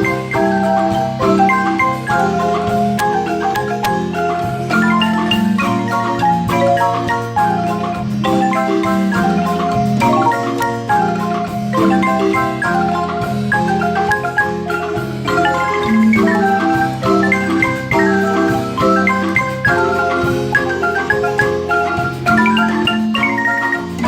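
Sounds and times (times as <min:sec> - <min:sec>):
marimba ensemble playing: 0:00.0 - 0:24.0.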